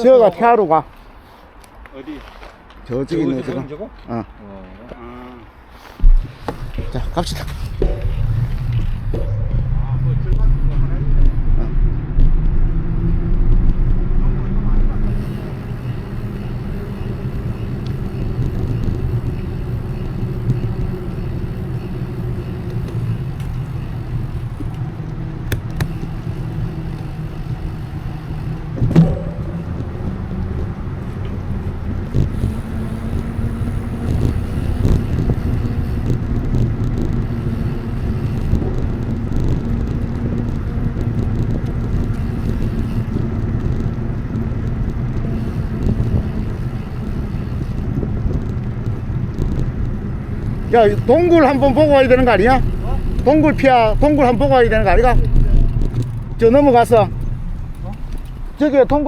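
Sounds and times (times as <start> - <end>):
vehicle rumble while riding: 3.8 - 59.0.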